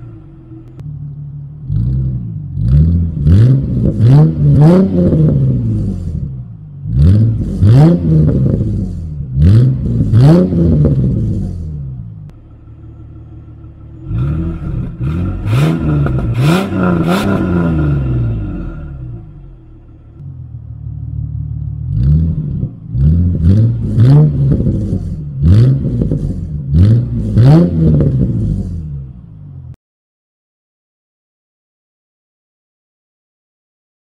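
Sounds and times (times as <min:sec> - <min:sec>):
car engine revving: 0:00.0 - 0:29.8.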